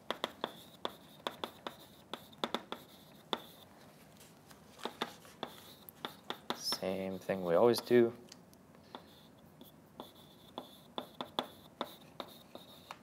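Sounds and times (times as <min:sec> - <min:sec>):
chalk tapping on blackboard: 0:00.0 - 0:03.7, 0:04.8 - 0:08.0, 0:08.9 - 0:13.0.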